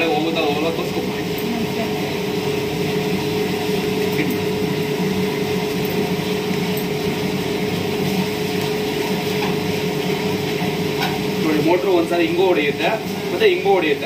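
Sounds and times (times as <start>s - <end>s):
washing machine motor humming: 0.0s - 14.0s.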